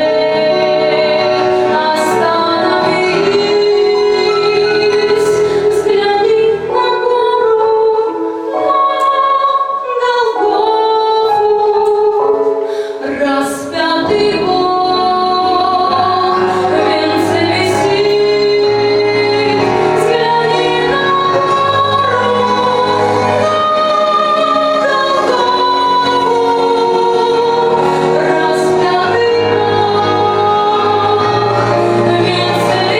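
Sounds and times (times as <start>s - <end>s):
musical accompaniment: 0.0s - 32.9s
woman singing: 0.0s - 32.9s.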